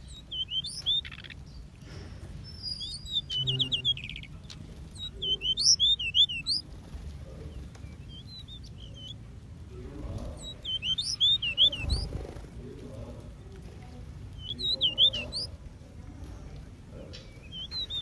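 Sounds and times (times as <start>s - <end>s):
small birds twittering: 0.0s - 18.0s.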